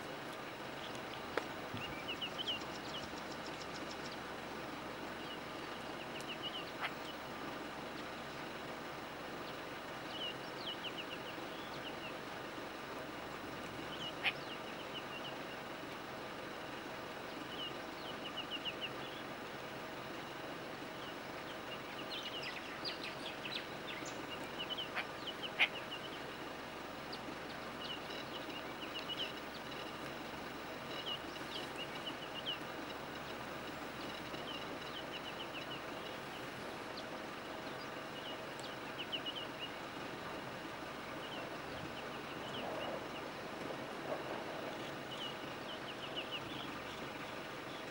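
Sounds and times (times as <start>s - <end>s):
small birds twittering: 0.0s - 47.9s
steady background hiss: 0.0s - 47.9s.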